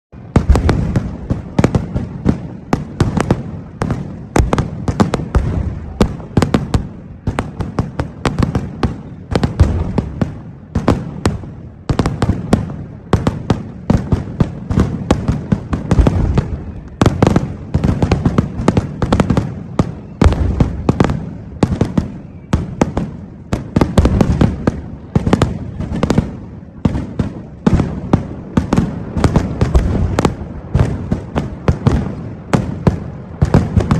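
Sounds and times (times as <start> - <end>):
firecracker barrage bangs: 0.2 - 33.9.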